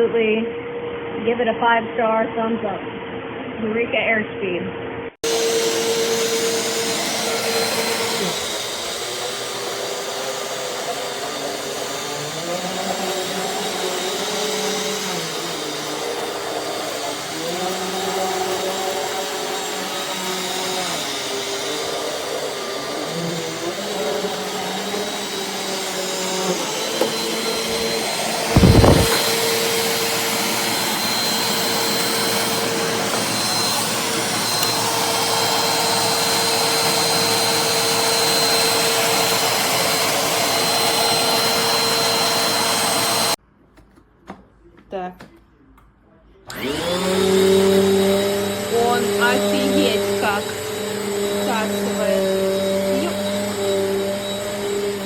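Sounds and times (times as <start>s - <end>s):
vacuum cleaner running: 5.2s - 43.4s, 46.5s - 55.0s.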